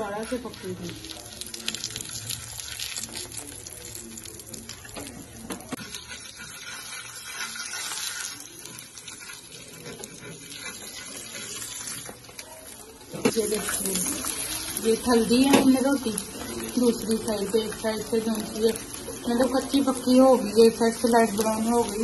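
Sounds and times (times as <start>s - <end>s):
flatbread sizzling in oil: 0.0s - 22.0s.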